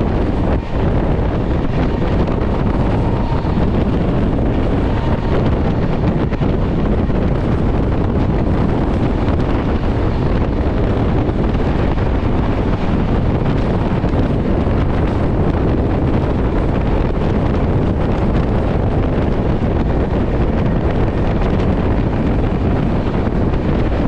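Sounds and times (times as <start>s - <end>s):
train rumbling: 0.0s - 24.0s
wind buffeting microphone: 0.0s - 24.0s.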